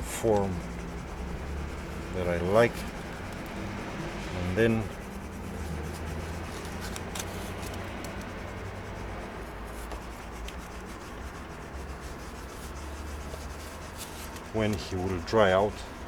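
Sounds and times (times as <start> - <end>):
tool scraping wet cement: 0.0 - 15.9
steady low hum: 0.0 - 16.0.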